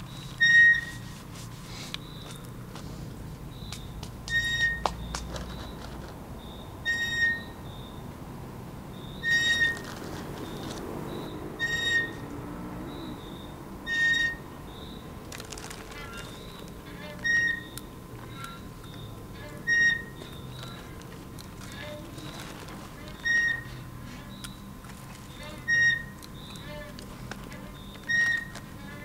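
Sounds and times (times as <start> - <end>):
metal swing squeaking: 0.0 - 2.7, 3.4 - 8.2, 8.8 - 29.0.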